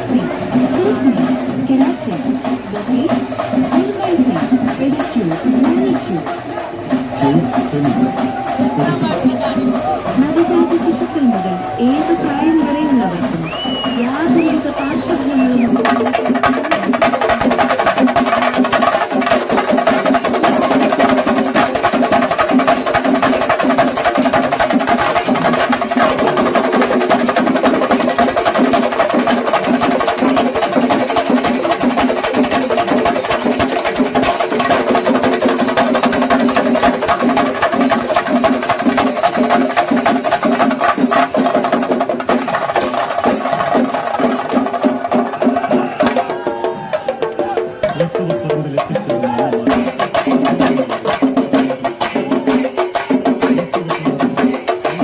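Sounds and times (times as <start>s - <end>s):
drums playing fast strokes: 0.0s - 55.0s.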